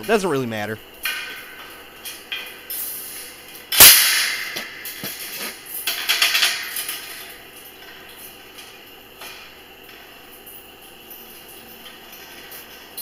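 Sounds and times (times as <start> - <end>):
wire rattling: 1.0 - 13.0.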